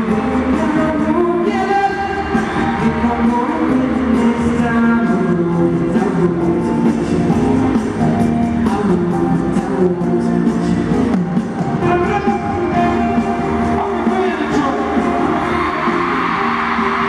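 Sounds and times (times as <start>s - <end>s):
man singing into microphone: 0.0s - 7.5s, 8.4s - 15.6s
amplified band backing: 0.0s - 17.0s.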